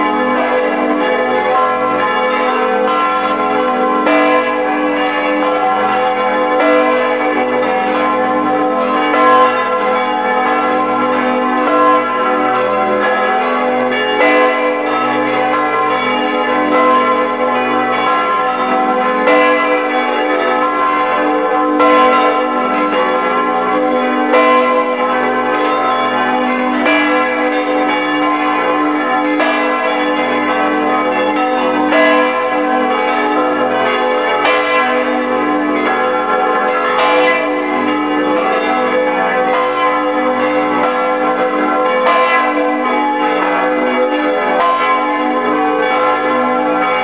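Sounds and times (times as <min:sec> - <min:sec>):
church bells pealing: 0:00.0 - 0:47.0.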